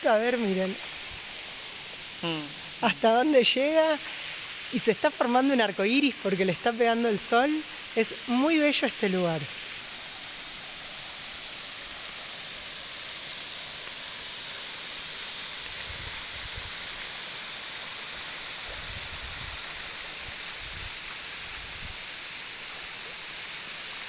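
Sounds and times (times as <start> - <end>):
waterfall rushing onto rock: 0.1 - 24.0.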